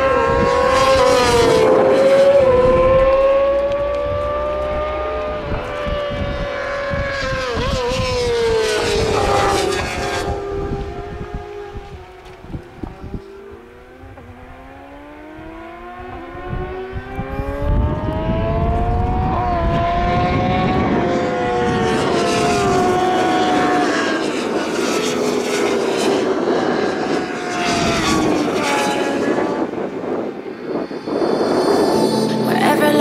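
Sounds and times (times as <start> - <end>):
racing motorcycles passing at high revs: 0.0 - 33.0.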